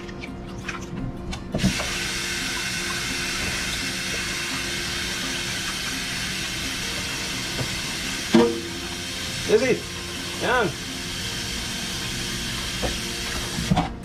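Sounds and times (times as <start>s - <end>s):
water running from a tap: 1.6s - 13.8s.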